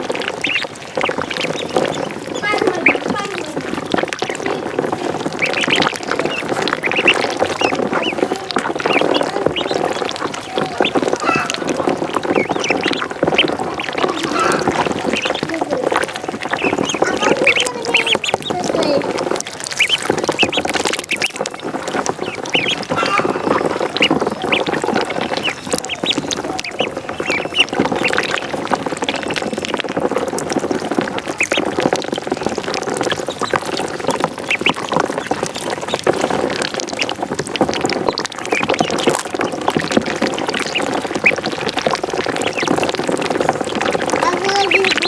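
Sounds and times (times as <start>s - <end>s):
ducklings peeping: 0.0s - 45.0s
ducks quacking: 0.0s - 45.0s.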